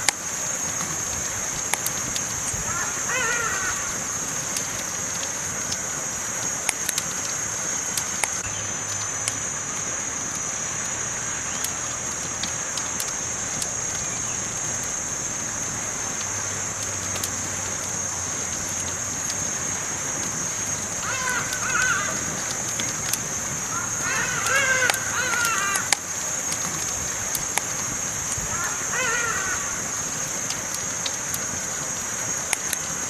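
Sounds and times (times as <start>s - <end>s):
campfire crackling: 0.0s - 33.0s.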